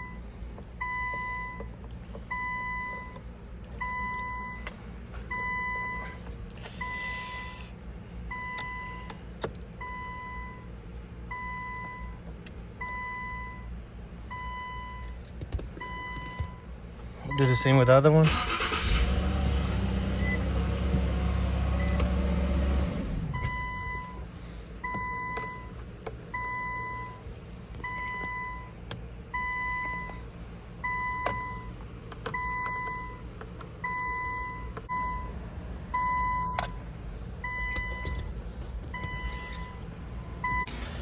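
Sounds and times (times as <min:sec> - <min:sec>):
steady low hum: 0:00.0 - 0:18.1, 0:19.0 - 0:41.0.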